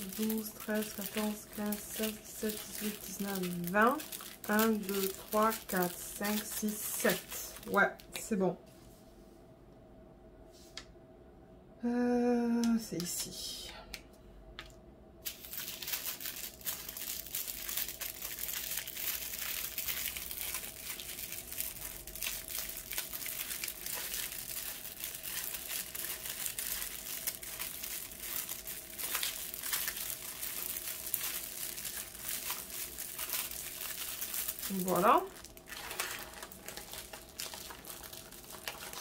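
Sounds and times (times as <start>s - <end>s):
plastic bags crinkling: 0.0s - 8.1s, 15.2s - 39.0s.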